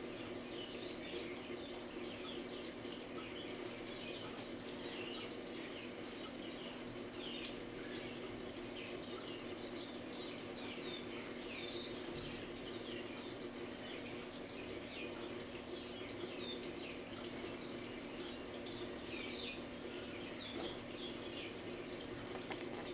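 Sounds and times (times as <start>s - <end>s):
small birds chirping: 0.0s - 22.9s
steady low hum: 0.0s - 22.9s.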